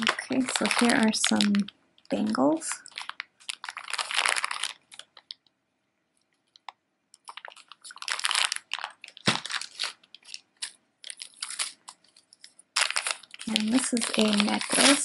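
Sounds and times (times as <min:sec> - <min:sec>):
plastic bag crinkling: 0:00.0 - 0:05.5, 0:07.2 - 0:15.0.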